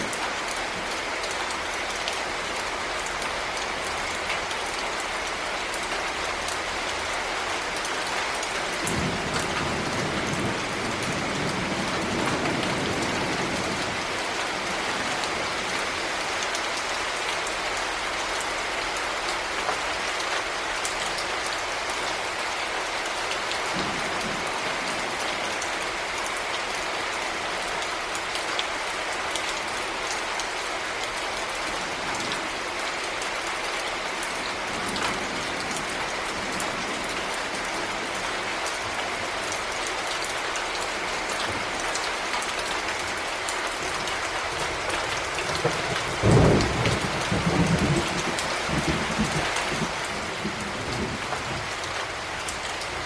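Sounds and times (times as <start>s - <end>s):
heavy rain: 0.0s - 53.0s
raindrops ticking on surface: 0.0s - 53.0s.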